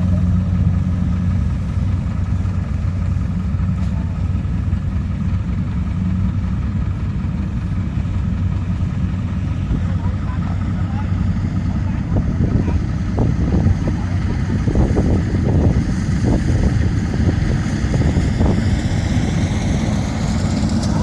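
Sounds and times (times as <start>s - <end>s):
machinery engine humming: 0.0s - 21.0s.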